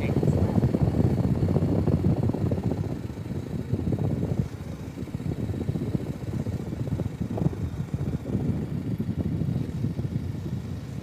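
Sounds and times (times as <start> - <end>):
motorcycle engine running: 0.0 - 11.0
wind rumbling on microphone: 0.0 - 11.0.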